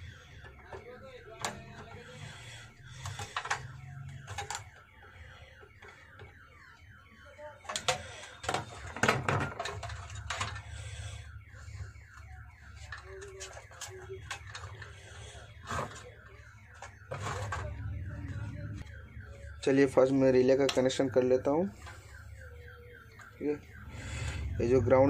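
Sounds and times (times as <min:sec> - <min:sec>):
wires and parts clicking: 0:00.0 - 0:06.9, 0:07.6 - 0:24.6.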